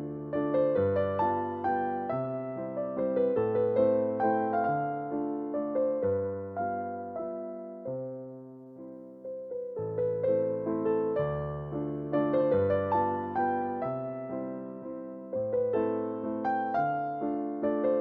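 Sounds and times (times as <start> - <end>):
gentle electric piano melody: 0.0 - 18.0.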